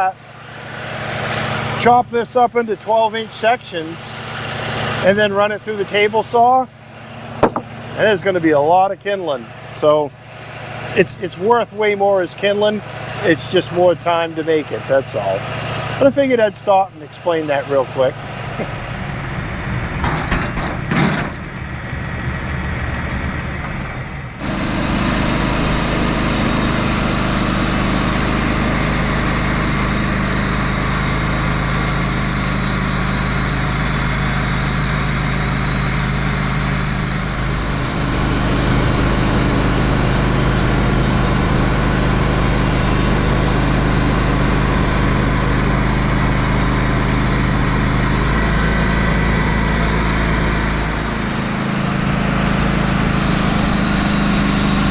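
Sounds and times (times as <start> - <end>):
saw cutting log: 0.0 - 19.7, 24.4 - 54.9
sawmill engine running: 0.0 - 20.8, 21.5 - 54.9.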